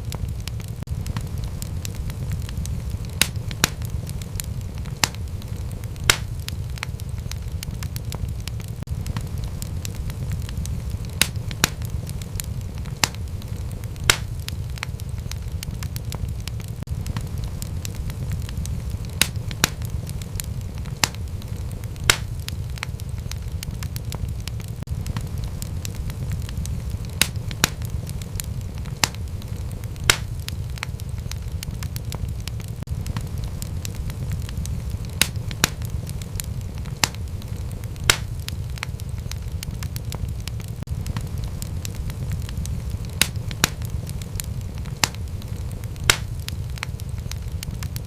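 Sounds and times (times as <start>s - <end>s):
loud fire pops: 0.0s - 48.0s
low rumble of burning: 0.0s - 48.0s
wood fire crackling: 0.0s - 48.0s.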